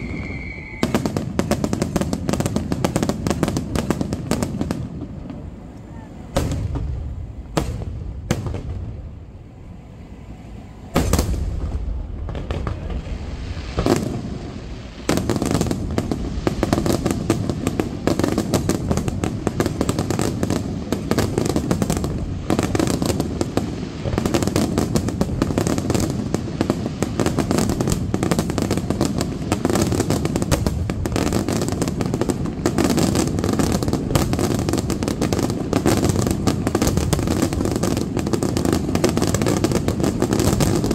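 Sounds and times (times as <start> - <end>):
fireworks barrage crackling: 0.0 - 40.9.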